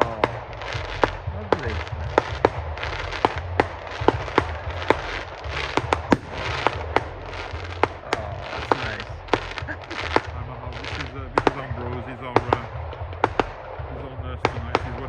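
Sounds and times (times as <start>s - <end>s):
continuous crackling hiss: 0.0s - 15.0s
fireworks bangs and cracks: 0.0s - 15.0s.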